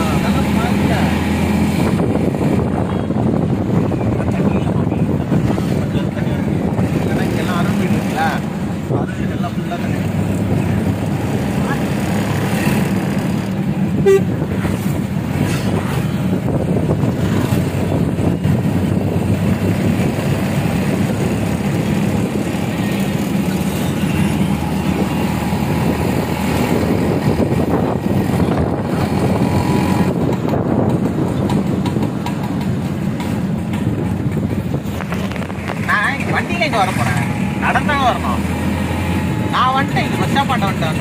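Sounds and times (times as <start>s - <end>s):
tyres on wet road: 0.0s - 41.0s
vehicle engine and road noise: 0.0s - 41.0s.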